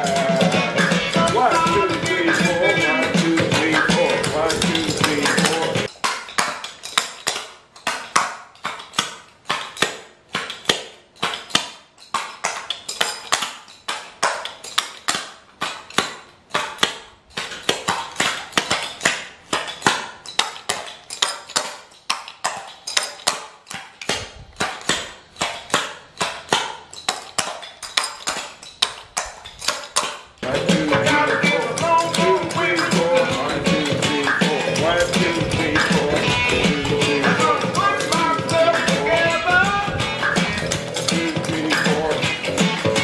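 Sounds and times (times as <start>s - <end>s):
tap shoes clicking on floor: 0.0s - 43.0s.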